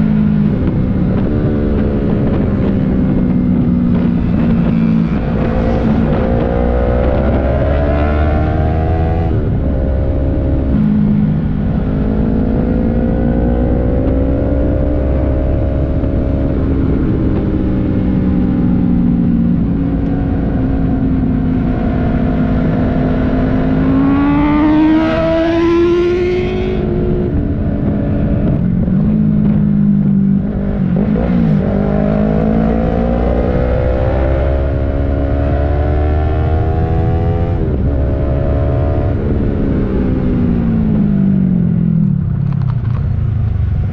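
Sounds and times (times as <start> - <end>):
motorcycle engine accelerating: 0.0 - 43.9
wind rushing over microphone: 0.0 - 43.9.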